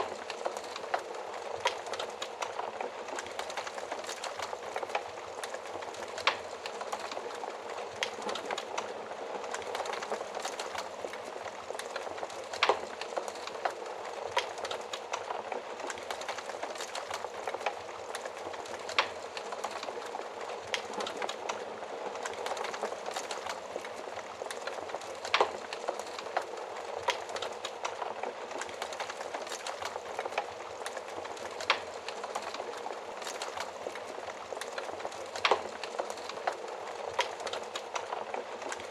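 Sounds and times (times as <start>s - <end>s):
wood fire crackling in stove: 0.0s - 38.9s.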